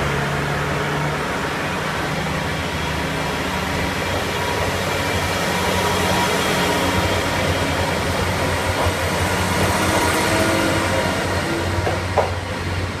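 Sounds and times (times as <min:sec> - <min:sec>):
diesel railcar engines humming: 0:00.0 - 0:13.0.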